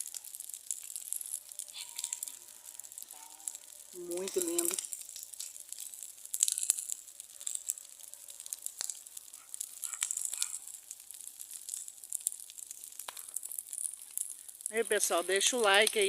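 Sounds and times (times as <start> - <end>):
bonfire crackling: 0.0 - 16.0
fire popping: 0.0 - 16.0.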